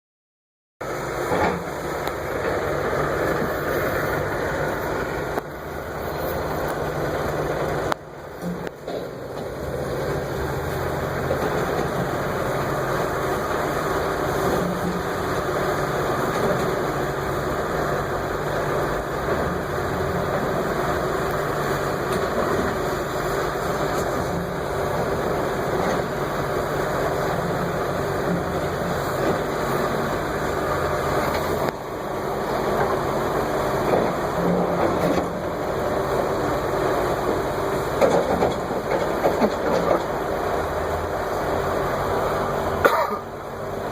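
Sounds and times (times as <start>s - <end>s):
heavy equipment engine running: 0.8s - 43.9s.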